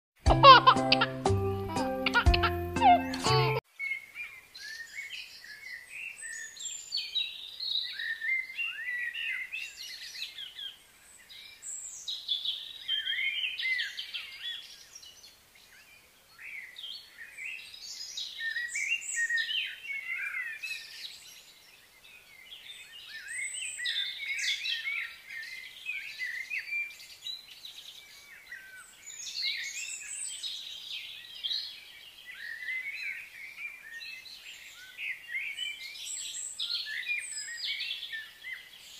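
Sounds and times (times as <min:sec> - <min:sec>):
birds chirping and twittering: 0:00.4 - 0:38.9.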